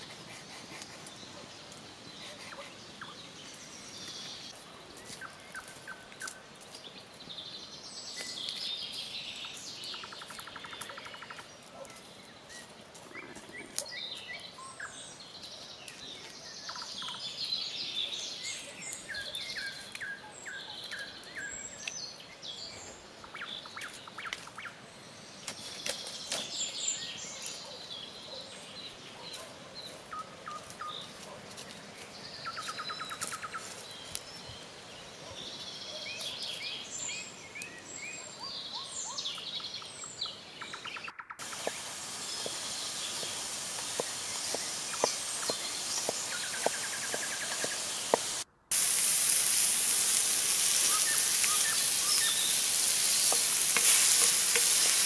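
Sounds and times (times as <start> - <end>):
birds singing: 0.0 - 48.4, 50.0 - 55.0.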